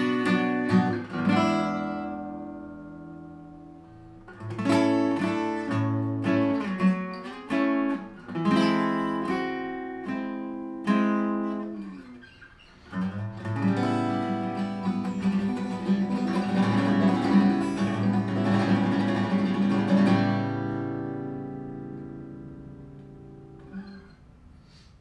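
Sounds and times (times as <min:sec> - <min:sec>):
acoustic guitar strummed: 0:00.0 - 0:25.0.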